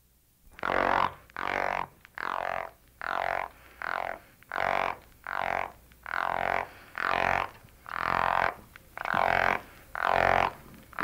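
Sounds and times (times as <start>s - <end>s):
frog croaking: 0.6s - 10.6s.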